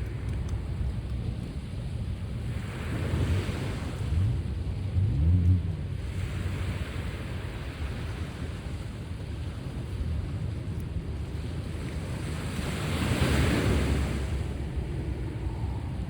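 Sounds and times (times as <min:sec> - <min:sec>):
sea waves washing ashore: 0:00.0 - 0:16.0
wind rumble on microphone: 0:00.0 - 0:16.0.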